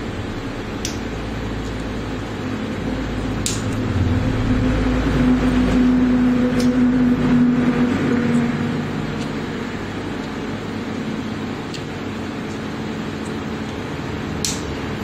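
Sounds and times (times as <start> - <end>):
welder fan humming: 0.0 - 15.0.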